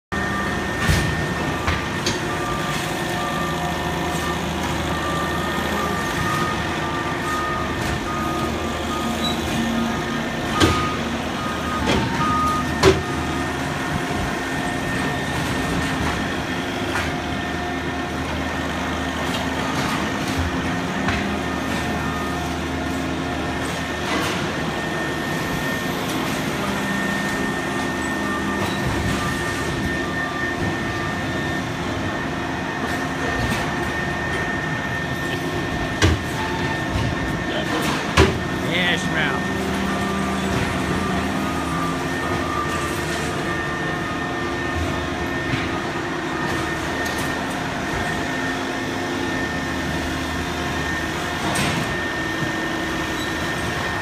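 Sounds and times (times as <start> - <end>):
forklift engine hum: 0.1 - 54.0
forklift reversing alarm beeping: 0.1 - 54.0.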